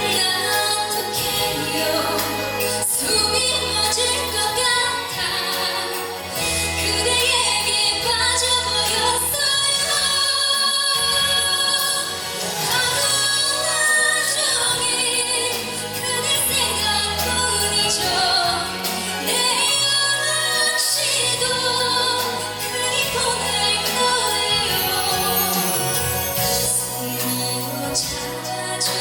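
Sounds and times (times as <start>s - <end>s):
pop ballad singing: 0.0s - 29.0s.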